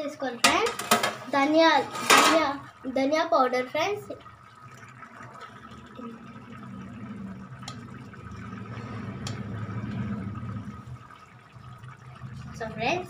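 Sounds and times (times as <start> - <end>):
curry simmering and bubbling: 0.0 - 13.0
steady low hum: 0.0 - 13.0.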